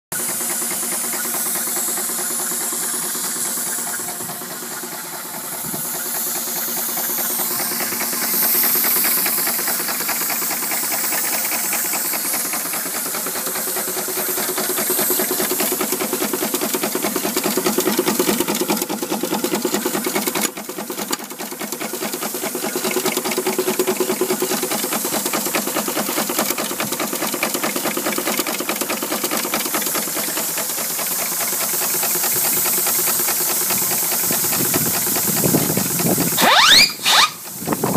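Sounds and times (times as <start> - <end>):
fast mechanical engine beat: 0.0 - 37.9
steam hissing: 0.1 - 37.9.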